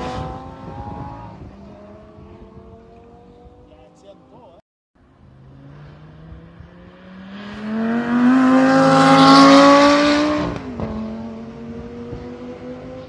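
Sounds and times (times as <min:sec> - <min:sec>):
sports car accelerating past: 0:00.0 - 0:03.7, 0:05.1 - 0:13.0.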